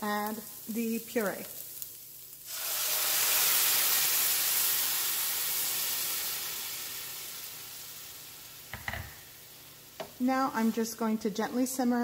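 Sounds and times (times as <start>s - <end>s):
puree sizzling in hot pan: 0.0s - 12.0s.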